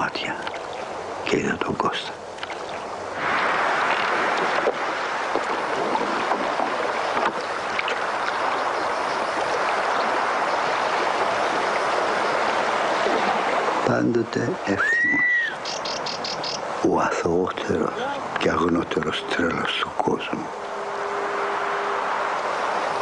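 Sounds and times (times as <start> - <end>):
faint water splashes: 0.0 - 23.0
sea water washing on shore: 0.0 - 23.0.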